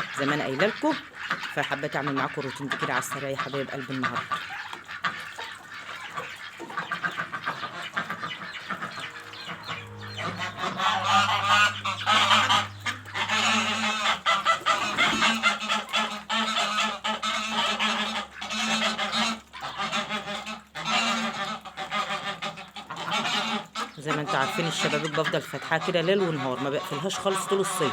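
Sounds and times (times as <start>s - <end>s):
geese honking: 0.0s - 27.9s.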